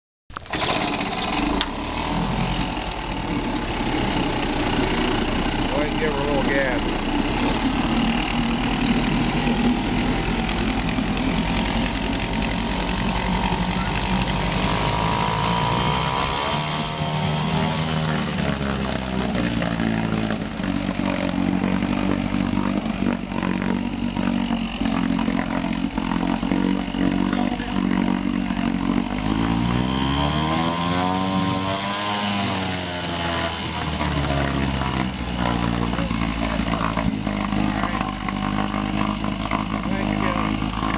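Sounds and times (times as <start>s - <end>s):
outboard motor running and revving: 0.3s - 40.9s.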